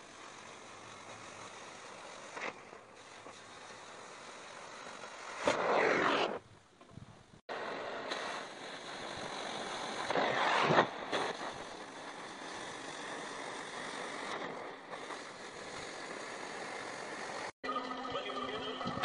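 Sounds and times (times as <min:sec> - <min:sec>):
cutting torch hissing: 0:00.0 - 0:06.4, 0:07.5 - 0:17.6.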